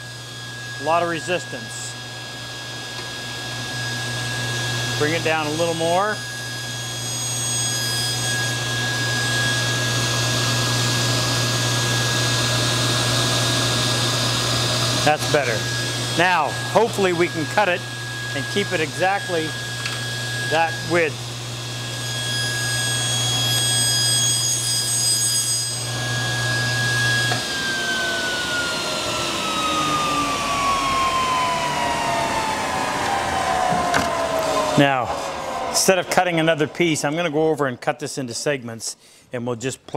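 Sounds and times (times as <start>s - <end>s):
table saw hum and whine: 0.0s - 38.0s.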